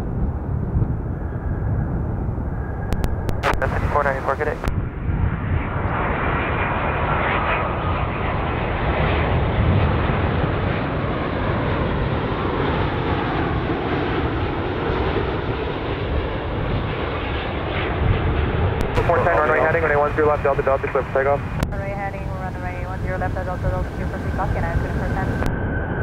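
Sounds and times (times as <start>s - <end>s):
jet engines passing overhead: 0.0s - 26.0s.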